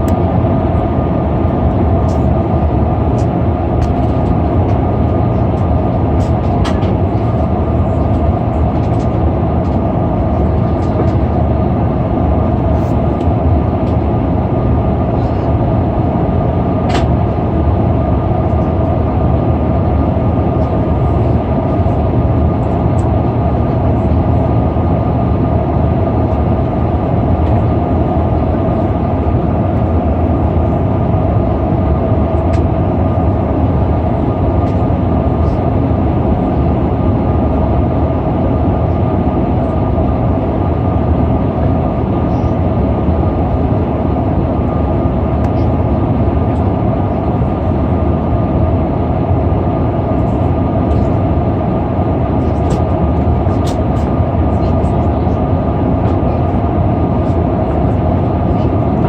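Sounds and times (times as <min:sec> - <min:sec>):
airplane cabin drone: 0:00.0 - 0:59.0
steady hum tones: 0:00.0 - 0:59.0.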